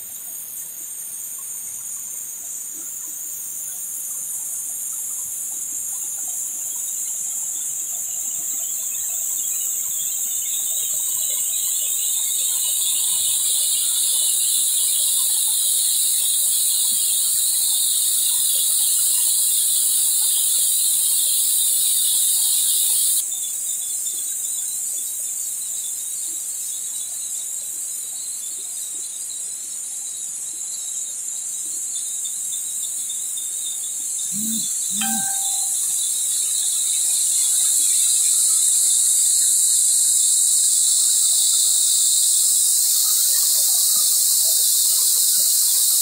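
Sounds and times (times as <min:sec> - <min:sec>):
high-pitched insect chorus buzzing: 0:00.0 - 0:46.0.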